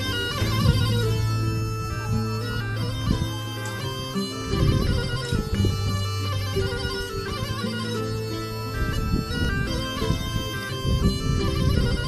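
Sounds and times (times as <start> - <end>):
bagpipe drone: 0.0 - 12.0
bagpipe folk melody: 0.0 - 12.0.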